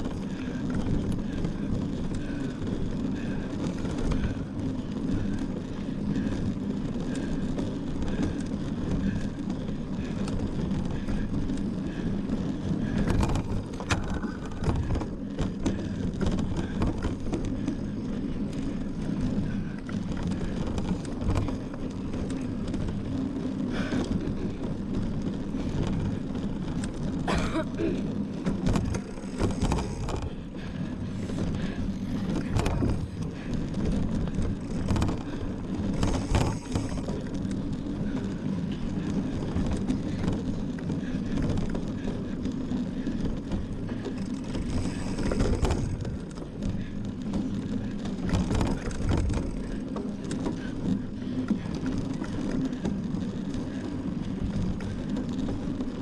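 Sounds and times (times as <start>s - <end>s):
bike rattling and knocking: 0.0s - 56.0s
tyres rumbling on rough ground: 0.0s - 56.0s.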